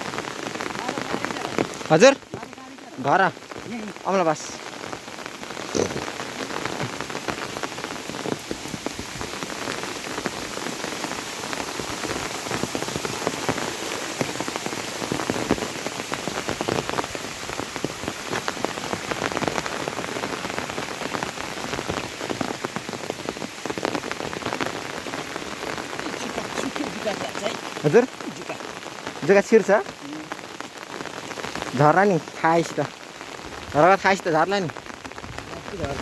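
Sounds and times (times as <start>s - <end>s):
heavy rain pattering: 0.0s - 36.0s.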